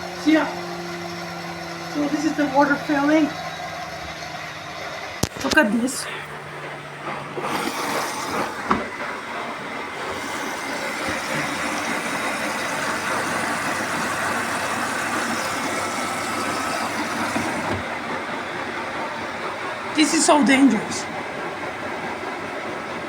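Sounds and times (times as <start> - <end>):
water rushing into washing machine: 0.0 - 23.0.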